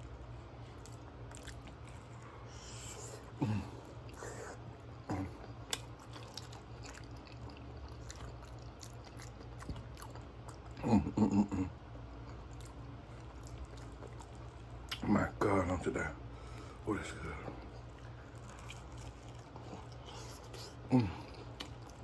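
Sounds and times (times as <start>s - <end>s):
chewing sandwich: 0.0s - 15.1s, 16.4s - 22.0s
steady low hum: 0.0s - 22.0s.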